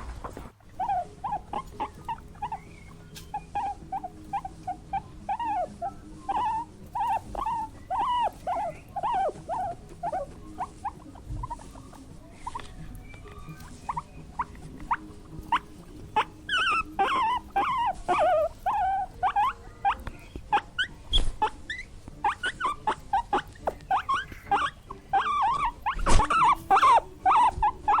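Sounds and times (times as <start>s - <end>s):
small animals squeaking: 0.6s - 28.0s.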